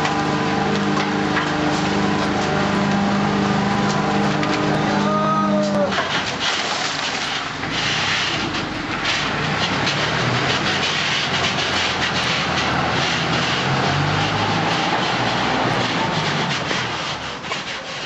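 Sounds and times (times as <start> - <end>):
truck engine running: 0.0 - 17.5
garbage truck compactor grinding: 0.0 - 18.0.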